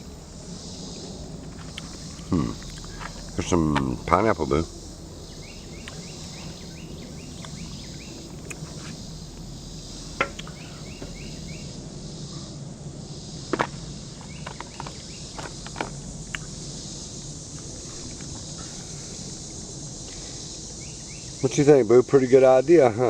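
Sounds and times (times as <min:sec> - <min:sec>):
insects chirping in trills: 0:00.0 - 0:23.0
outdoor background hum: 0:00.0 - 0:23.0.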